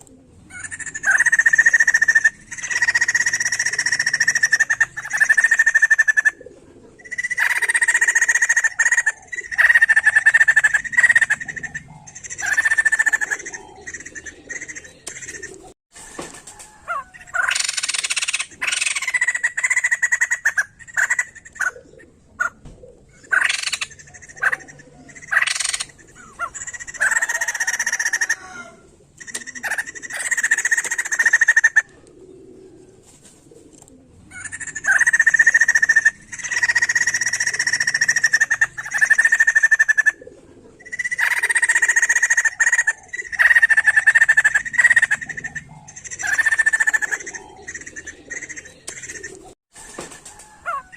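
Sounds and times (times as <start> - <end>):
laughingthrush chattering calls: 0.5 - 6.4, 7.0 - 15.7, 17.0 - 22.5, 23.2 - 31.9, 34.3 - 40.2, 40.8 - 49.6.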